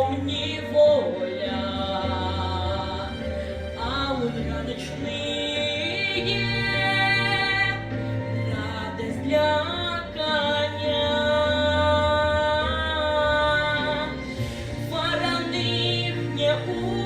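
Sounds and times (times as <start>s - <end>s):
low musical accompaniment: 0.0s - 17.0s.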